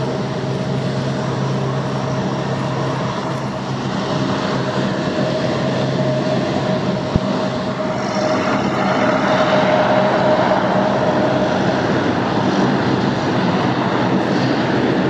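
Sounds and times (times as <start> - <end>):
steady engine whine: 0.0 - 15.0
turboprop engines running: 0.0 - 15.0.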